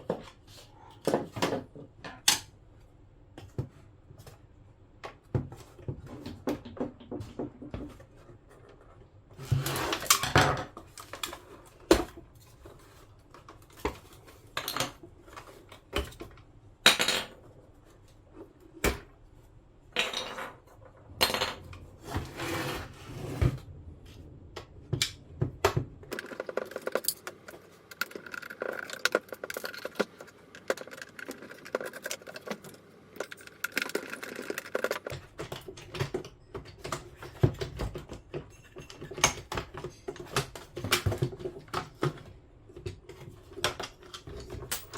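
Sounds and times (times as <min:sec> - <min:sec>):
plastic parts clicking and clattering: 0:03.4 - 0:19.2, 0:24.6 - 0:44.9.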